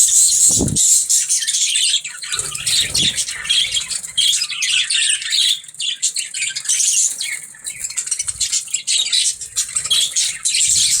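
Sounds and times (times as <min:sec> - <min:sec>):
budgies chattering and chirping: 0:00.0 - 0:11.0.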